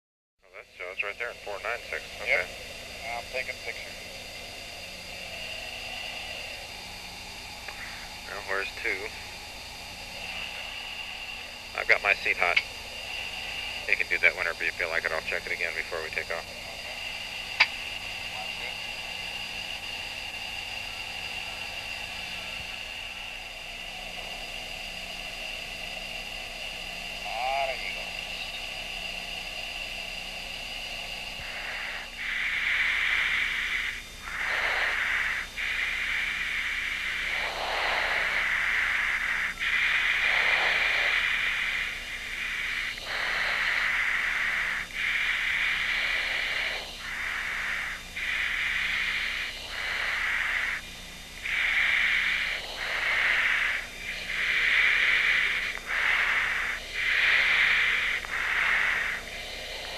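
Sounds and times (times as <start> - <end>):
cockpit hiss and hum: 0.4 - 59.9
loud rushing hiss: 0.5 - 59.9.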